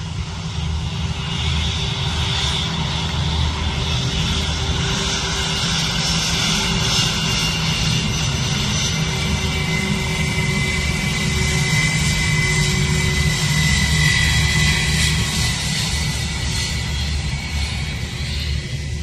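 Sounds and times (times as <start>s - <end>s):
jet engines rumbling with fan whine: 0.0s - 19.0s.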